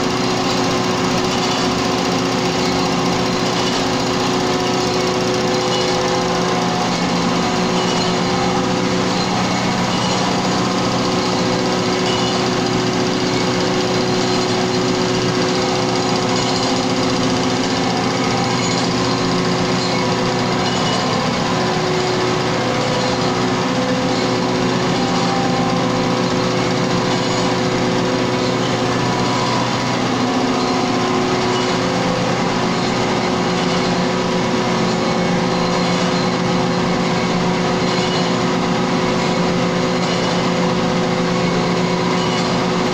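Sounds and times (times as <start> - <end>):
grinding machine drone: 0.0 - 42.9.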